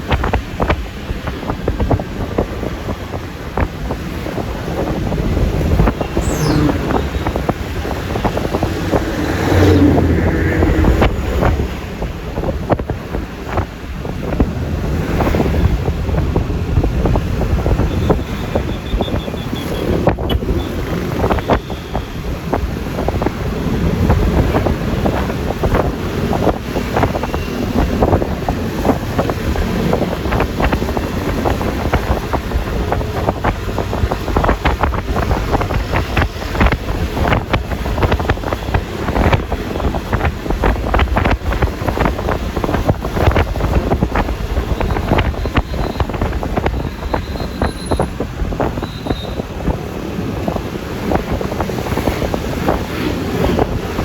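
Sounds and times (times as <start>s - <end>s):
scooter engine and tyre noise: 0.0s - 54.0s
wind buffeting microphone: 0.0s - 54.0s.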